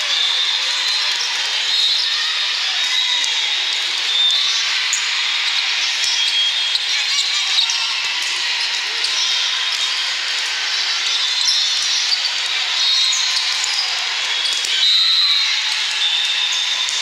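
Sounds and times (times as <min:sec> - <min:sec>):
hubbub of many voices: 0:00.0 - 0:17.0.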